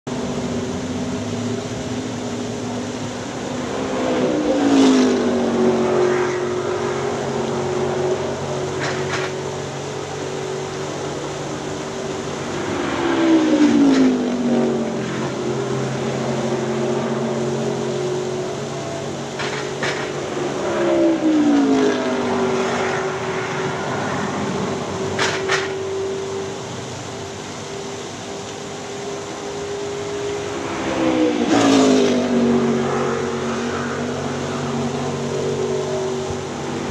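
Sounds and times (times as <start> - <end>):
fountain water falling: 0.1 - 36.9
race cars passing by: 0.2 - 36.9.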